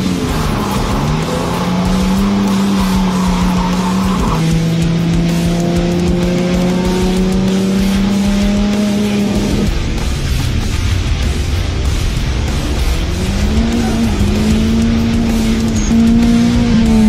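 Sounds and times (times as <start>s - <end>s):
car engine revving: 0.0s - 17.0s
rock music: 0.0s - 17.0s.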